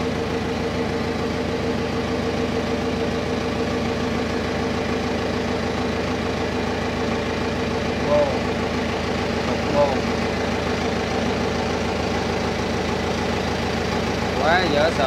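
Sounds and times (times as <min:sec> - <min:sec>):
engine room machinery drone: 0:00.0 - 0:15.0.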